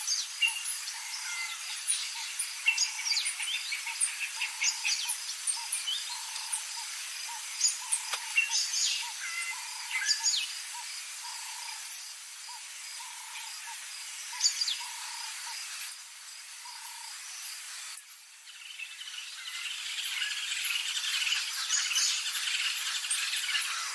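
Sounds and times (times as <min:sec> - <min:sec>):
insect noise: 0:00.0 - 0:23.9.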